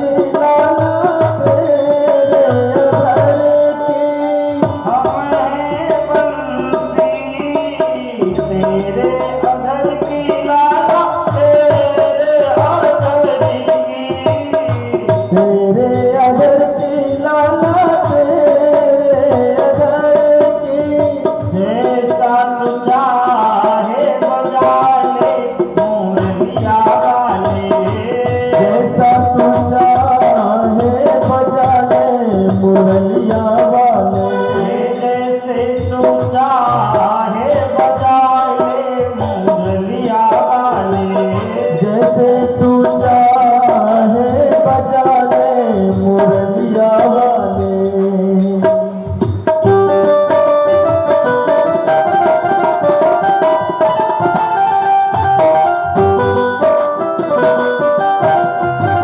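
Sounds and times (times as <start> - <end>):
melodic instrumental line: 0.0 - 59.0
tabla rhythm: 0.0 - 59.0.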